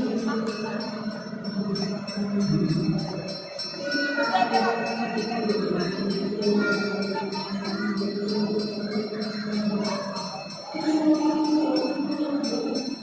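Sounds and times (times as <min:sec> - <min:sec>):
music with jingling bell beat: 0:00.0 - 0:13.0.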